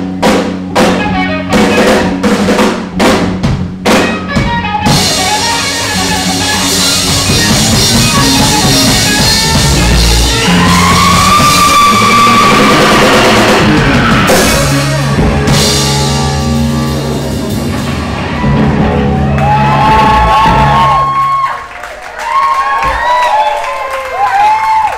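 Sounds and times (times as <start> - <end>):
distorted electric guitar: 0.0 - 21.2
drums with crashing cymbals: 0.0 - 21.2.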